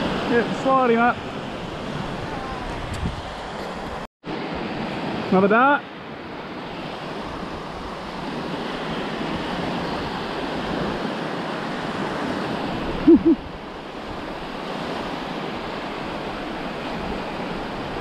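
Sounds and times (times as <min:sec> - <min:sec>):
surf waves washing on sand: 0:00.0 - 0:18.0.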